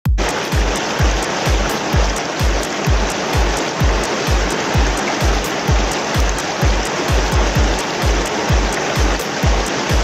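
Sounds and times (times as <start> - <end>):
music with kick drum beat: 0.0 - 10.0
water rushing over weir: 0.1 - 10.0.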